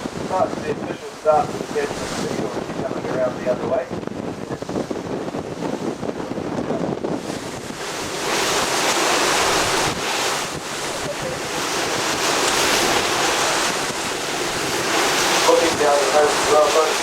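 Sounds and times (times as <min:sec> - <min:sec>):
sea water rushing around boat: 0:00.0 - 0:17.0
wind buffeting microphone: 0:00.0 - 0:17.0.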